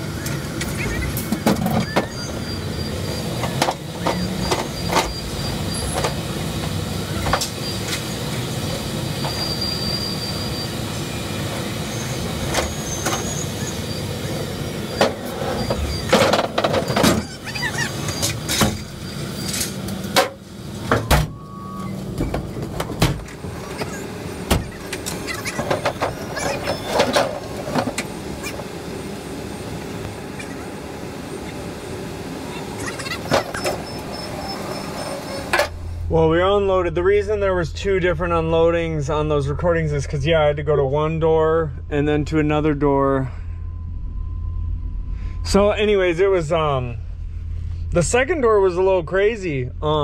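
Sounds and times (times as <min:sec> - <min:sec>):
forklift motor running: 0:00.0 - 0:48.3.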